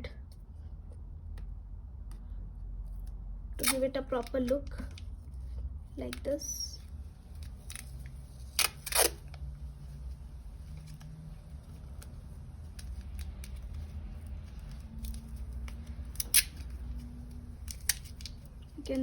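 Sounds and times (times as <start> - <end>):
tape and paper crackling: 1.3 - 19.0.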